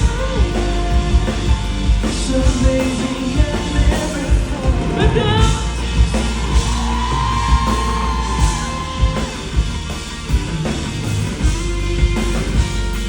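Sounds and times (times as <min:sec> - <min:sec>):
electric guitar: 0:00.0 - 0:13.0.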